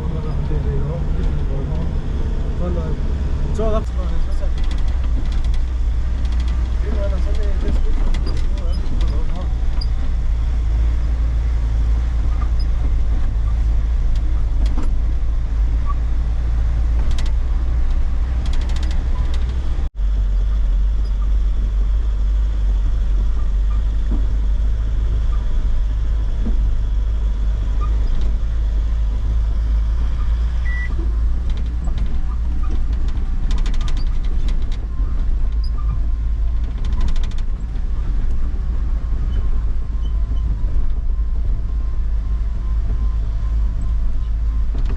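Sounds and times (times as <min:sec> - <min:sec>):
truck engine and road rumble: 0:00.0 - 0:44.9.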